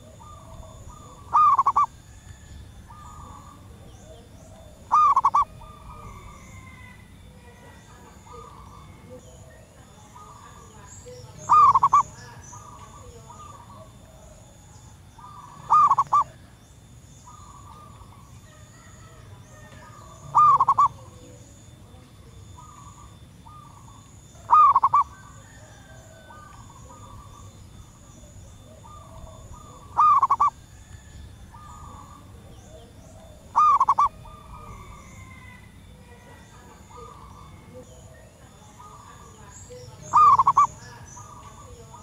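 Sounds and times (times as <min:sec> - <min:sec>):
dove cooing calls: 0:00.0 - 0:42.0
faint answering dove calls: 0:00.0 - 0:42.0.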